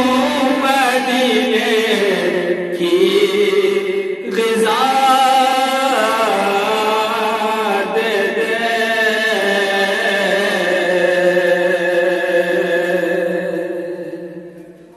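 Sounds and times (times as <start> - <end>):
man singing unaccompanied: 0.0 - 14.5.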